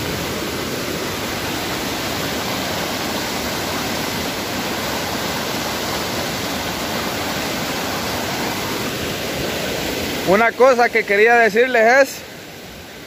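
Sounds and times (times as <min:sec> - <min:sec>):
floodwater rushing over rocks: 0:00.0 - 0:13.0.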